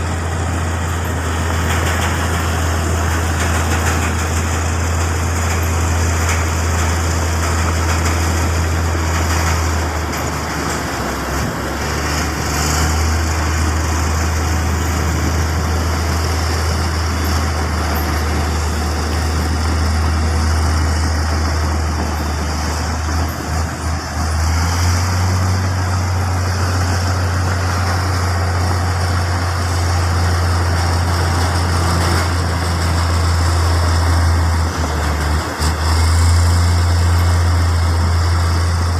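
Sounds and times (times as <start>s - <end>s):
construction machinery diesel drone: 0.0s - 38.9s.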